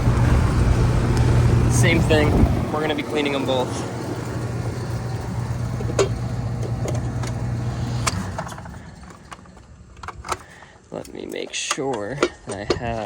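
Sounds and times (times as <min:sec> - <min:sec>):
air conditioner hum and fan: 0:00.0 - 0:13.0.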